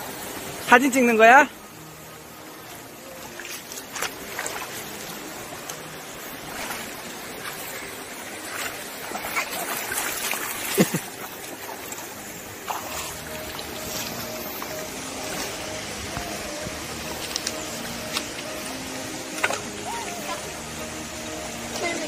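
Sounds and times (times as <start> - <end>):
stream flowing over stones: 0.0 - 22.0
splashes of wading: 2.3 - 22.0.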